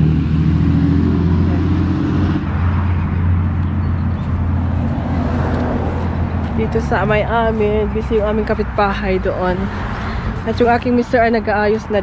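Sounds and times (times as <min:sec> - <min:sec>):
broad rushing noise: 0:00.0 - 0:12.0
engine running: 0:00.0 - 0:12.0.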